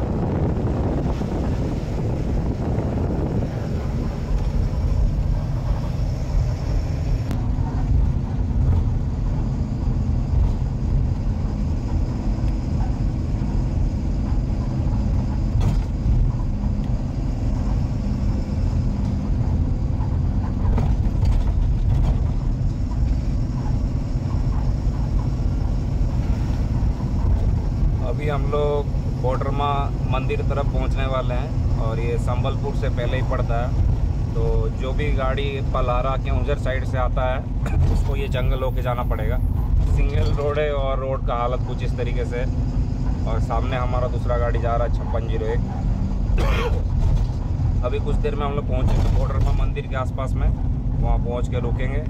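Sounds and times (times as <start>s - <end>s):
road and wind noise: 0.0s - 52.0s
truck engine drone: 0.0s - 52.0s.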